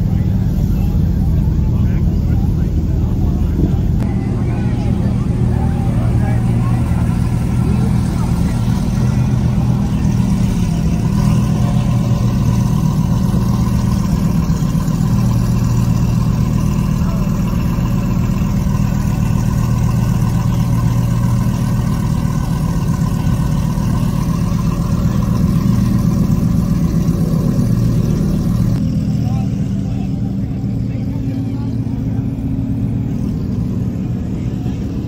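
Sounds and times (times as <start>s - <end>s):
car engine droning at low revs: 0.0s - 35.0s.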